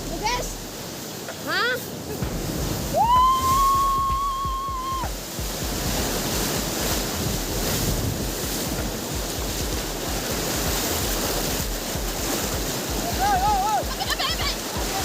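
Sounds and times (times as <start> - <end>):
rushing water: 0.0 - 15.0
wind buffeting microphone: 1.9 - 15.0.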